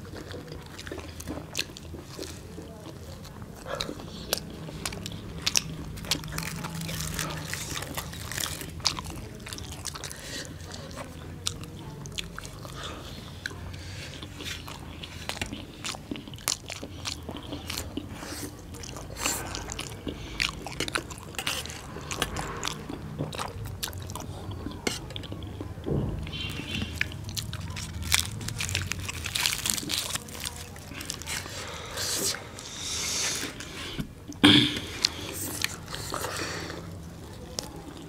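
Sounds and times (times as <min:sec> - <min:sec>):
biting and chewing bread: 0:00.0 - 0:38.0.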